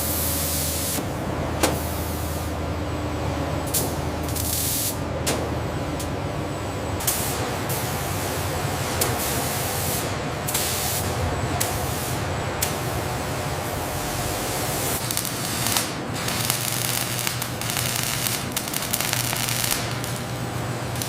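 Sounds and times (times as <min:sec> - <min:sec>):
steady low machine hum: 0:00.0 - 0:21.0.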